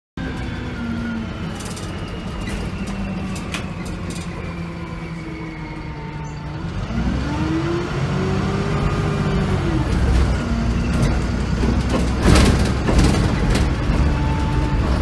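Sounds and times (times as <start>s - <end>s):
bus diesel engine revving: 0.2s - 15.0s.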